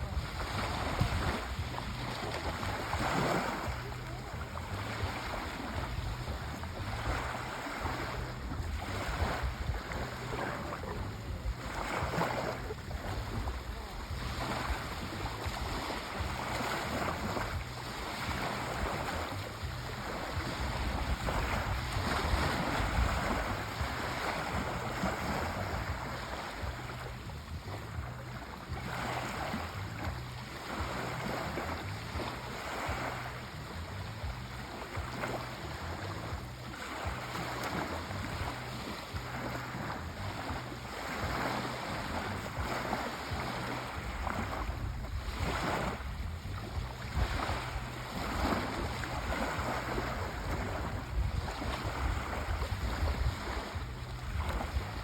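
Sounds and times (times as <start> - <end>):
sea waves washing on shore: 0.0 - 55.0
wind on microphone: 0.0 - 55.0.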